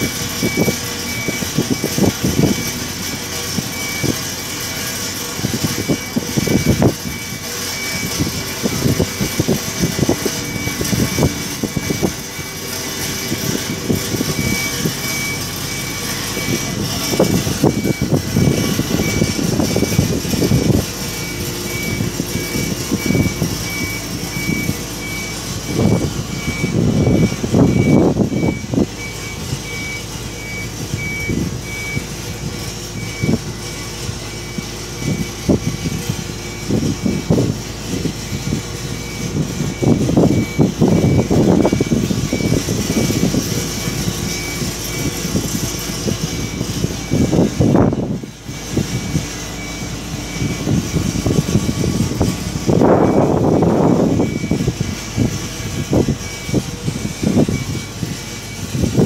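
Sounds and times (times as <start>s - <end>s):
heavy crane machinery rumbling: 0.0s - 59.0s
high warning beep: 0.0s - 59.0s.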